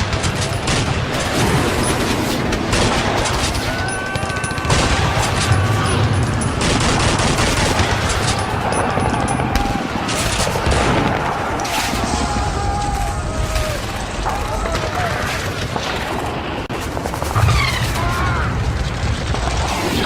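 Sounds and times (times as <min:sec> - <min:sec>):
rifle and machine-gun fire: 0:00.0 - 0:20.0.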